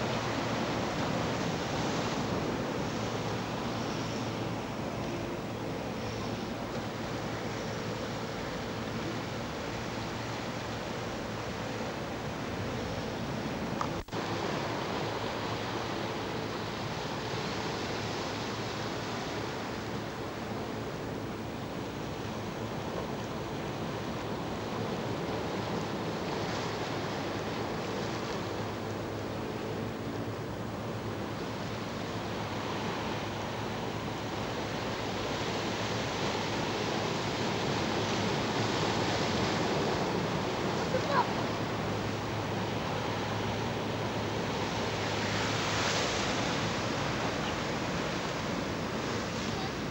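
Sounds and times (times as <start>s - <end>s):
sea washing: 0.0s - 49.9s.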